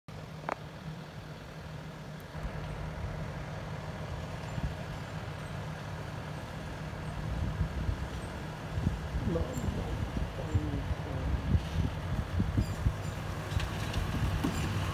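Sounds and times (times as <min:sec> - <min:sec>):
diesel truck engine droning: 0:00.1 - 0:14.9.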